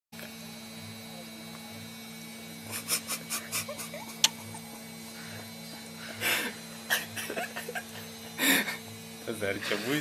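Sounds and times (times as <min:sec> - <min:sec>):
electrical hum: 0:00.2 - 0:10.0.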